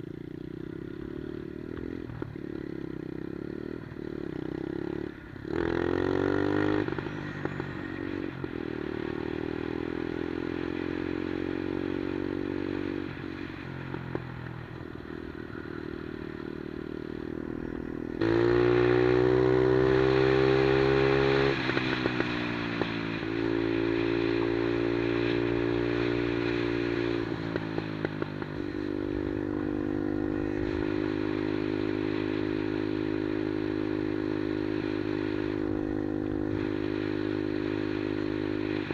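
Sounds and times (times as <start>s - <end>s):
minibike engine revving: 0.0s - 14.2s, 15.1s - 38.9s.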